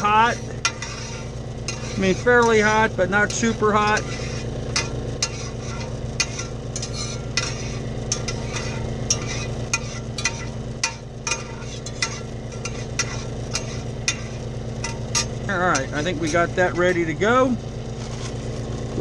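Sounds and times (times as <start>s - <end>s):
butter sizzling in a skillet: 0.0s - 17.0s
low steady hum: 0.0s - 19.0s.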